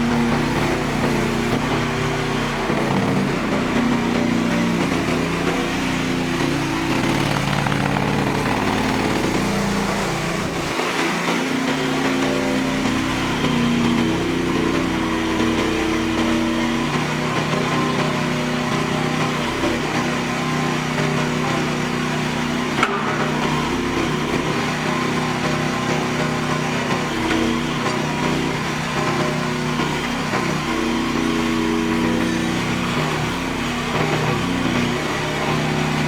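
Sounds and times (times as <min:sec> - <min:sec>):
skid steer loader engine running: 0:00.0 - 0:36.0.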